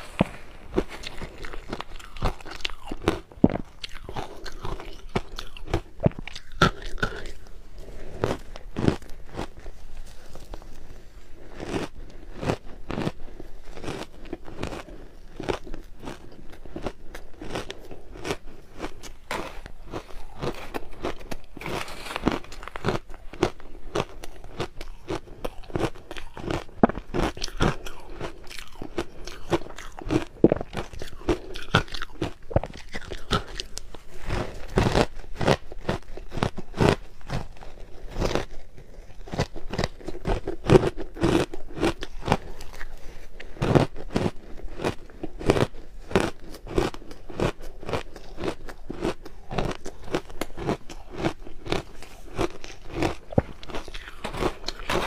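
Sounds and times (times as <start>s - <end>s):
chewing crushed ice: 0.0s - 55.0s.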